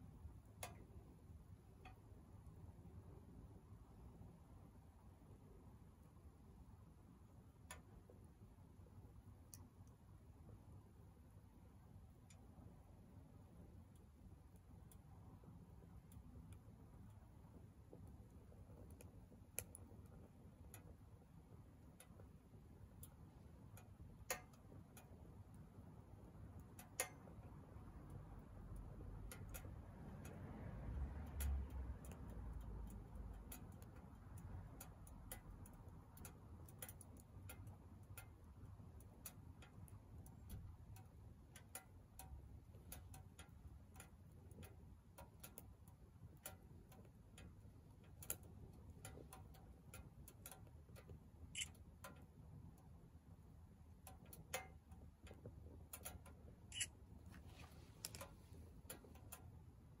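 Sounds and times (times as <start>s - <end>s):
wood crackling in a stove: 0.0s - 60.0s.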